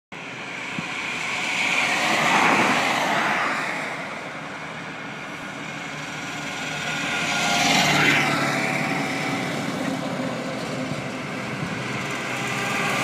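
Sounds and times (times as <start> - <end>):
auto-rickshaw approaching: 0.2 - 13.0
cars passing on highway: 0.2 - 13.0.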